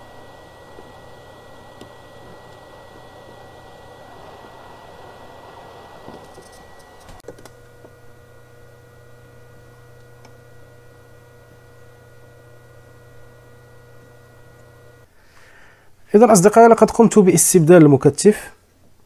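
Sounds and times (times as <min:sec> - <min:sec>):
electrical hum with whining tones: 0:00.0 - 0:17.8.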